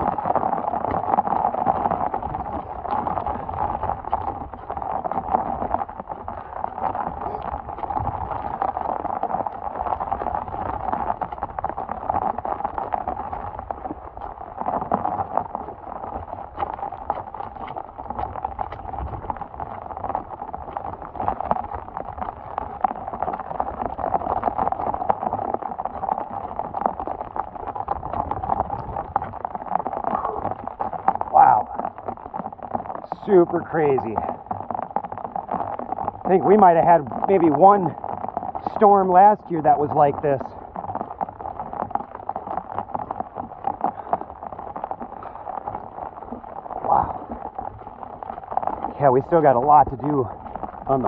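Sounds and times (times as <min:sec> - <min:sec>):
heavy rain and runoff: 0:00.0 - 0:51.0
wind rumble on microphone: 0:00.0 - 0:51.0.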